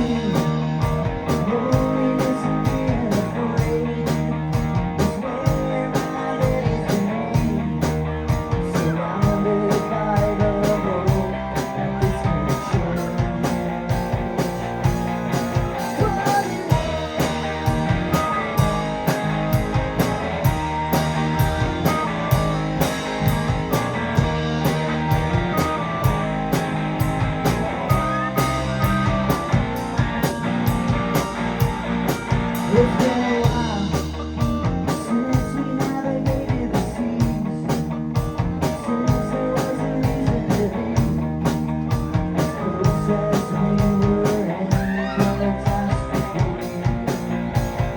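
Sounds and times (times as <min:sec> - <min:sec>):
rock band playing instrumental: 0:00.0 - 0:47.9.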